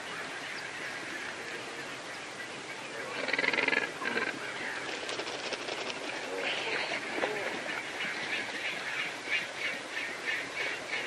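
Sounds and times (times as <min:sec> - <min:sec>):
outdoor ambience: 0:00.0 - 0:11.0.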